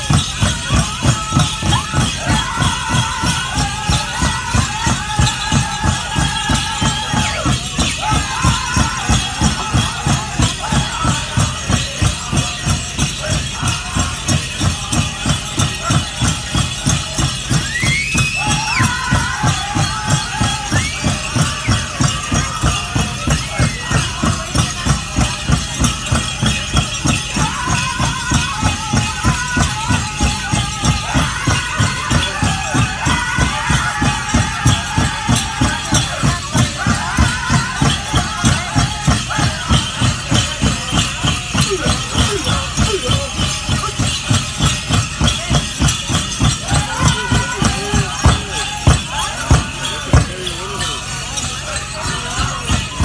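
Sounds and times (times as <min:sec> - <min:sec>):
big drum beating: 0:00.0 - 0:53.0
dancers' bells jingling: 0:00.0 - 0:53.0
singers high chanting: 0:00.0 - 0:53.0.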